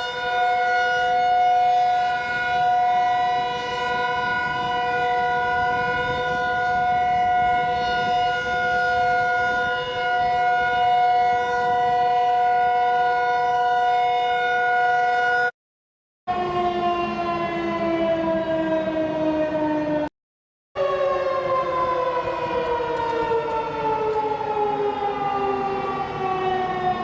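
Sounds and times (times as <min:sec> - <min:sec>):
emergency siren steady pitch: 0:00.0 - 0:15.6, 0:16.3 - 0:20.1, 0:20.8 - 0:27.0.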